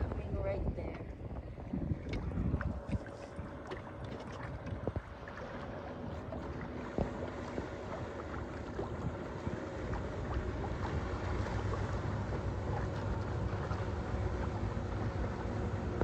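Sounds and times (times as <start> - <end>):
water washing along hull: 0.0 - 16.0
wind buffeting microphone: 0.0 - 16.0.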